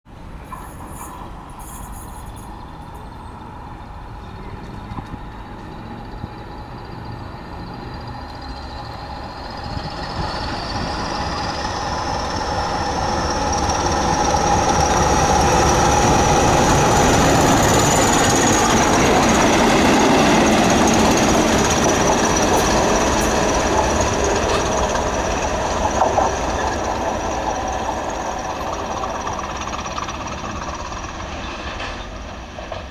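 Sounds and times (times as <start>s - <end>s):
diesel locomotives passing: 0.1s - 32.9s.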